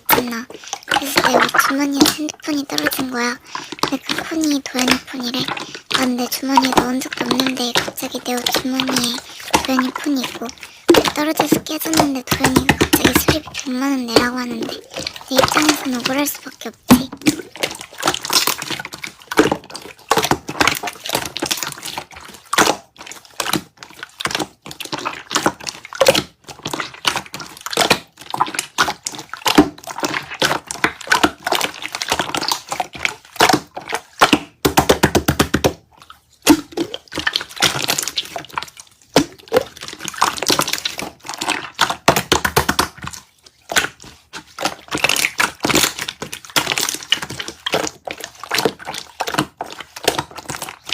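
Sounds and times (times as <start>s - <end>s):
slime squishing and popping: 0.0s - 50.9s.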